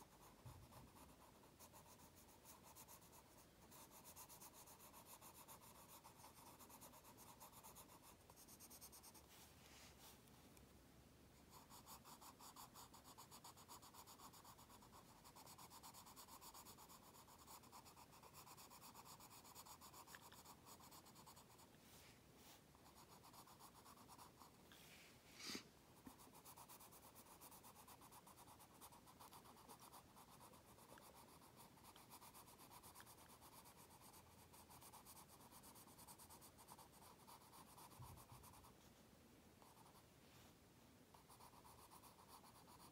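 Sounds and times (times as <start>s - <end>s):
colored pencil scratching on card: 0.0s - 9.4s, 11.5s - 21.7s, 22.4s - 24.5s, 25.4s - 38.8s, 39.6s - 40.0s, 41.1s - 42.9s.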